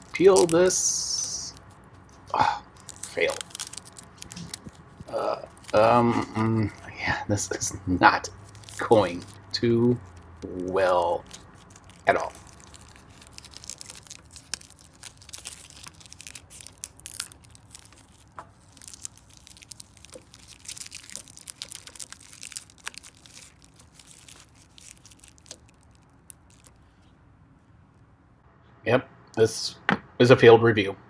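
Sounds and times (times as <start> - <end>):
plastic film crinkling and tearing: 0.0 - 26.9.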